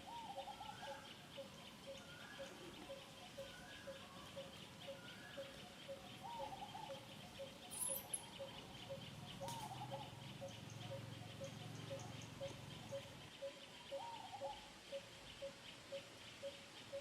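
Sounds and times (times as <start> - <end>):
insects pulsing chirr: 0.0 - 17.0
rustle: 0.0 - 17.0.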